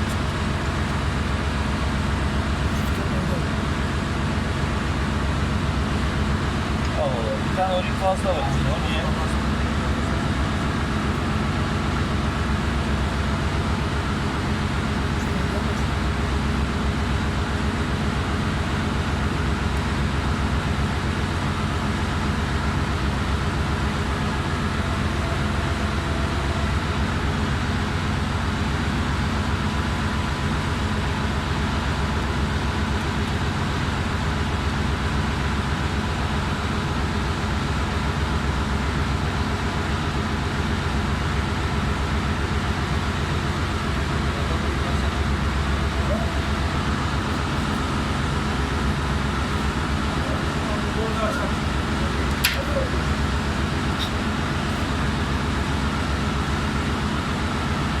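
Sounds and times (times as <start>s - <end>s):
engine room machinery drone: 0.0s - 58.0s.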